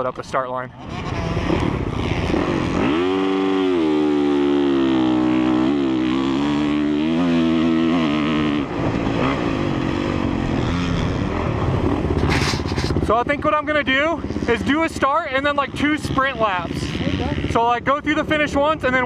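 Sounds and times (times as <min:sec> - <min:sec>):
motocross engine revving: 0:00.0 - 0:19.0.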